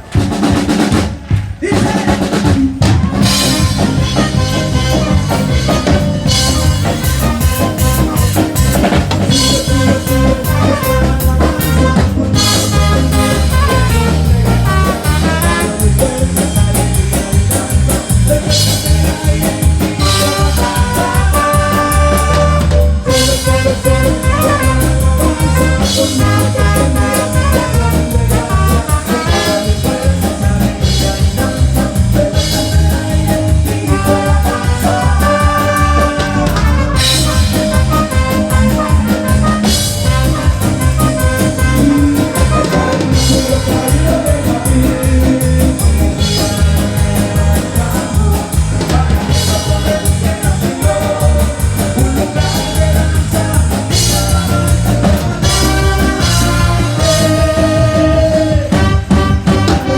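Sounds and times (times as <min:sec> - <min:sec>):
drum kit beat: 0:00.0 - 0:59.9
upbeat live band music: 0:00.0 - 0:59.9.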